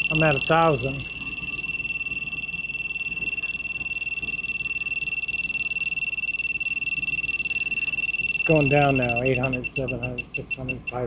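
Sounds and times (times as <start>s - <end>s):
high-pitched pulsing alarm beep: 0.0s - 11.0s.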